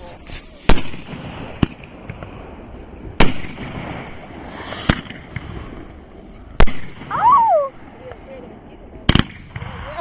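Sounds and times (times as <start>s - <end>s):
firework bangs: 0.6s - 10.0s.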